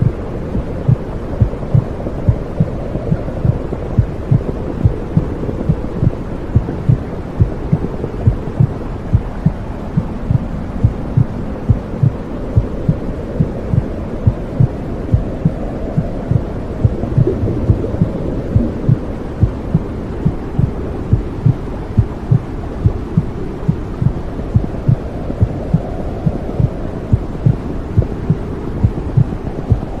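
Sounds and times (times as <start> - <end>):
dull whooshing rumble: 0.0 - 30.0
heartbeat thumping: 0.0 - 30.0.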